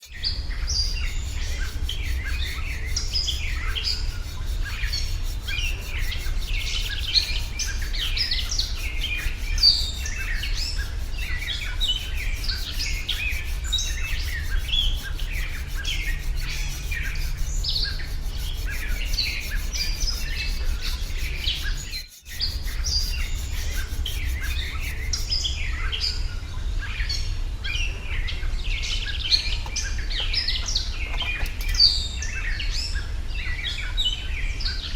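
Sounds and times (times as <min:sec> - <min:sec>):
birds chirping and twittering: 0:00.0 - 0:34.9.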